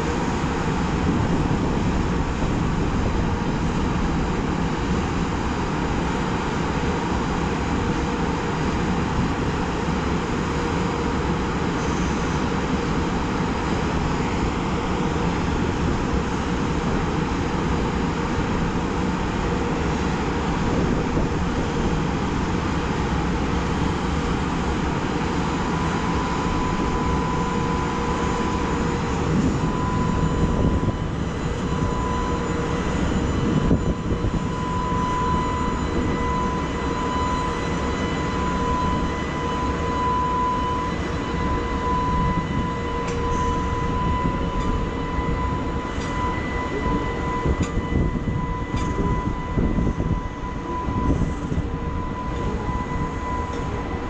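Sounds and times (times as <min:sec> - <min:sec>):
high motor whine: 0:00.0 - 0:54.0
locomotive roar: 0:00.0 - 0:54.0.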